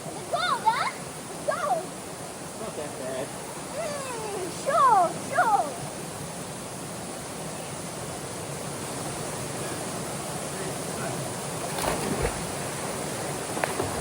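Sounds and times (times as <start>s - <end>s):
waterfall rushing into pool: 0.0s - 14.0s.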